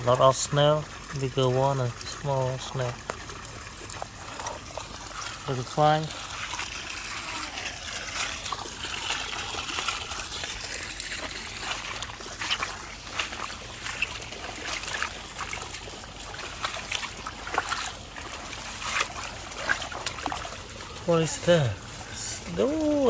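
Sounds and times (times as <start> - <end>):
small drips and crackles: 0.0 - 23.0
water trickling: 0.0 - 23.0.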